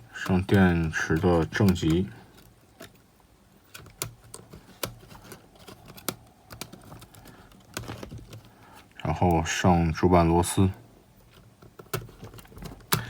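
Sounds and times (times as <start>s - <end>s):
small parts and tools clicking: 0.0s - 9.4s, 11.2s - 13.0s.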